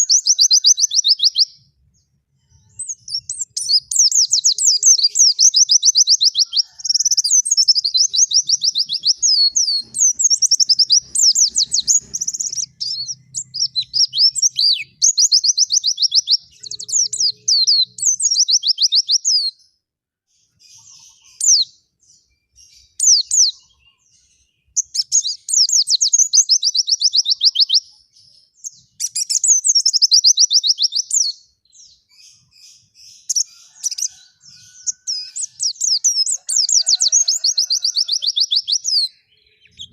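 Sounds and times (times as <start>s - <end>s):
songbird trilling: 0.0s - 1.6s, 2.4s - 19.6s, 20.6s - 21.8s, 22.6s - 39.9s.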